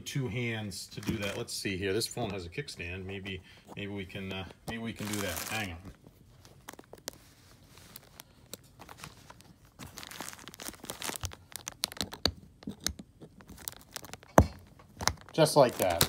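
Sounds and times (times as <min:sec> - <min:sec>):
plastic bags crinkling: 0:00.9 - 0:02.3, 0:04.2 - 0:16.0.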